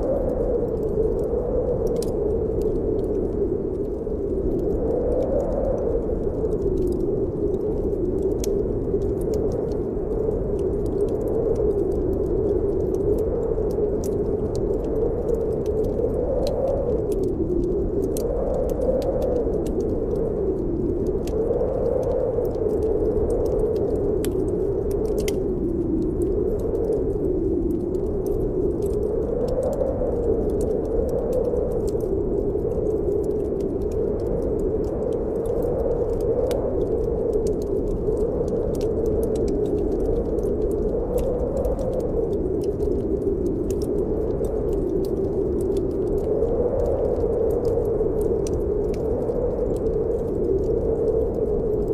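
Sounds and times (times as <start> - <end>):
wind howling: 0.0 - 51.9
wood fire crackling: 0.0 - 51.9.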